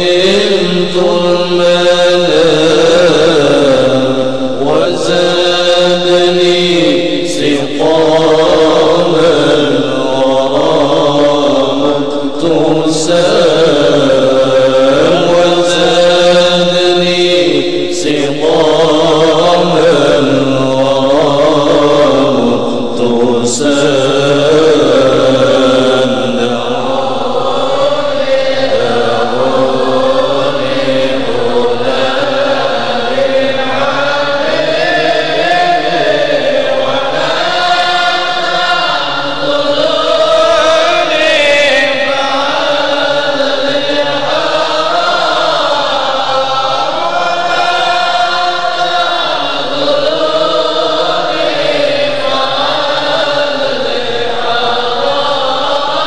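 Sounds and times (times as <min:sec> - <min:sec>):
voices chanting slow melody: 0:00.0 - 0:56.0.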